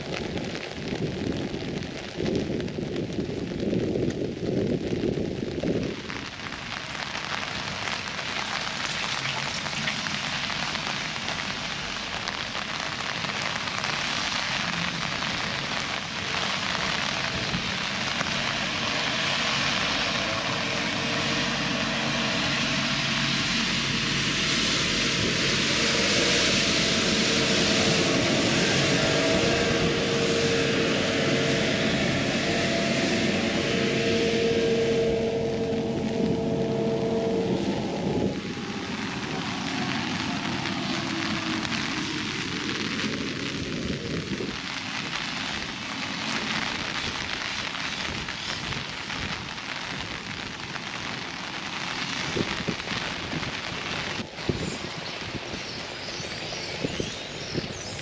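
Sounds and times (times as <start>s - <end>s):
rain pattering on umbrella: 0.0s - 33.8s, 35.5s - 58.0s
engine drone: 6.2s - 58.0s.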